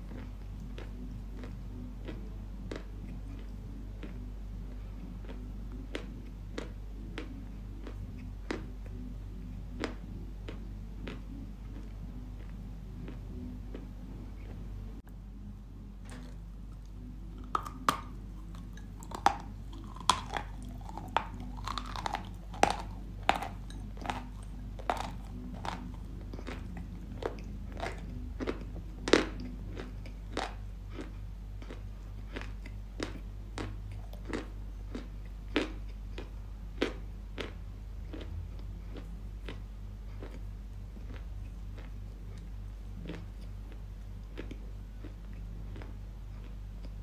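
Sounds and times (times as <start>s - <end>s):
chalk being chewed crunching: 0.0s - 9.1s, 16.1s - 47.0s
steady low hum: 0.0s - 47.0s.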